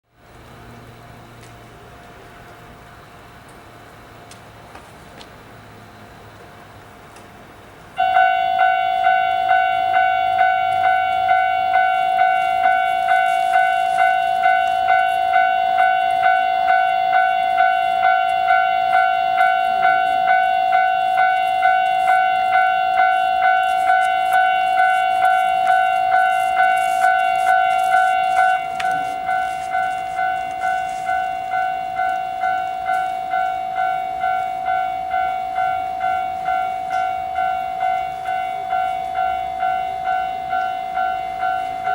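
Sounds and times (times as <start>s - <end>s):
level crossing alarm ringing: 8.0s - 41.9s.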